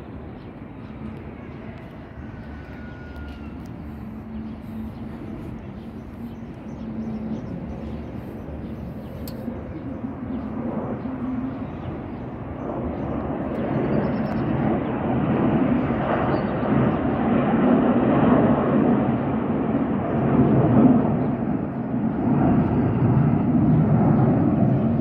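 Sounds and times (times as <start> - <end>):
distant jet noise: 0.0 - 25.0.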